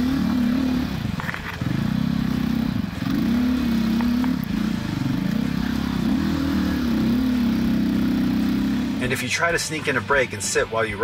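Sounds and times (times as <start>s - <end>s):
motorcycle engine under load: 0.0s - 10.6s.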